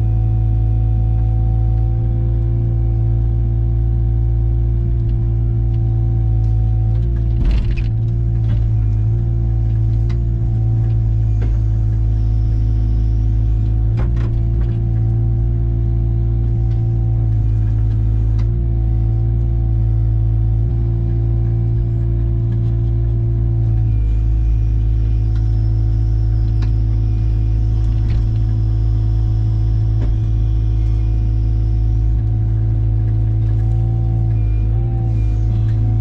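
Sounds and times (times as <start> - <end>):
diesel engine of heavy equipment: 0.0 - 36.0.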